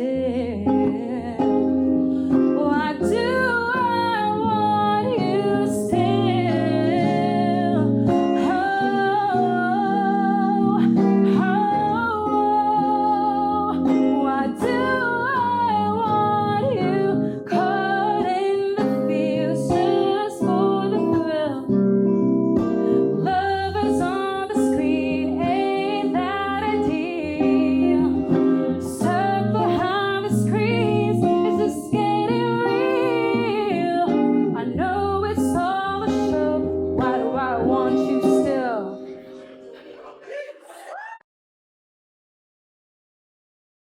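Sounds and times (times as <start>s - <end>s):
woman singing with vibrato: 0.0s - 21.8s, 23.2s - 41.2s
guitar chords: 0.0s - 40.3s.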